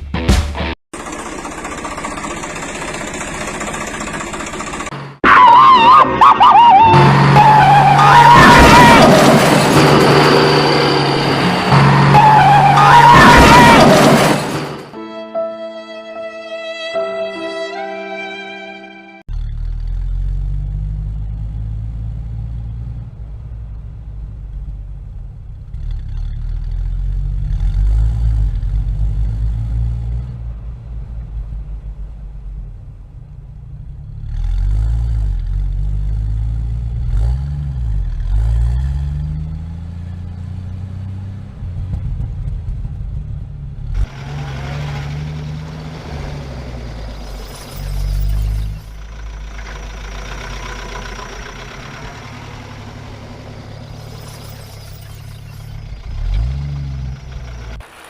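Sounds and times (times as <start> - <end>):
vehicle engine droning and revving: 1.0 - 15.0, 19.2 - 58.0.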